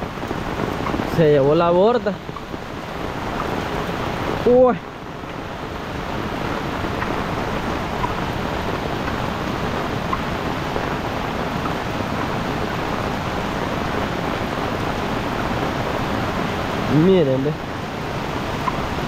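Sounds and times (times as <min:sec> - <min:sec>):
rain pattering on umbrella: 0:00.0 - 0:19.0
river rushing: 0:00.0 - 0:19.0.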